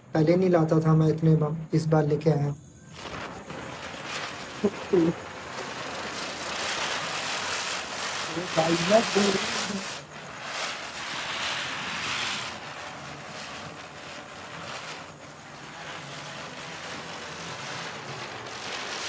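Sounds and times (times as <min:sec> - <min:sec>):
firecracker fizzing hiss: 0:00.0 - 0:19.0.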